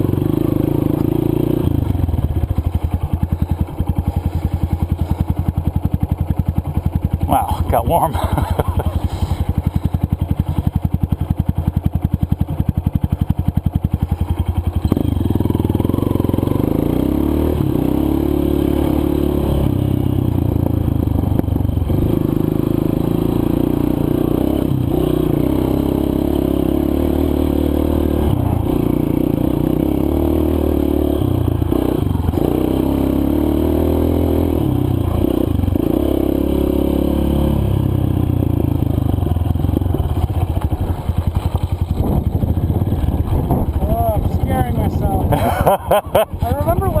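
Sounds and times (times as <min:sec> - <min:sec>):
dirt bike engine: 0:00.0 - 0:47.0.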